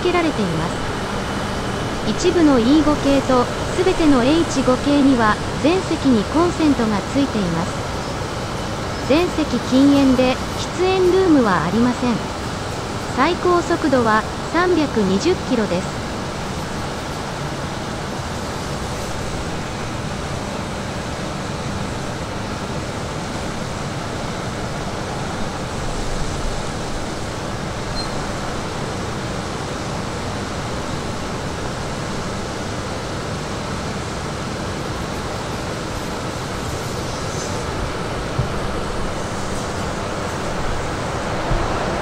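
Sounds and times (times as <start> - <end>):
train running slowly past: 0.0 - 42.0.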